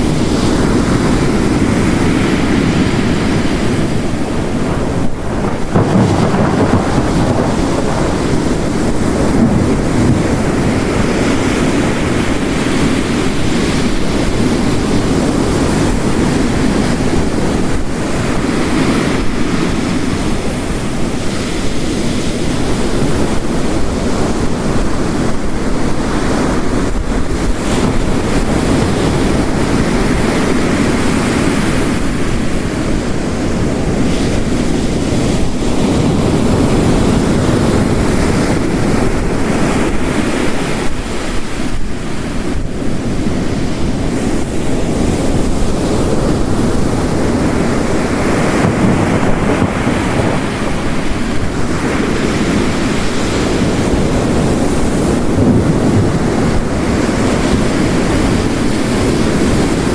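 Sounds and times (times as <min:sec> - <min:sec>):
heavy rain: 0:00.0 - 0:59.9
ocean waves crashing: 0:00.0 - 0:59.9.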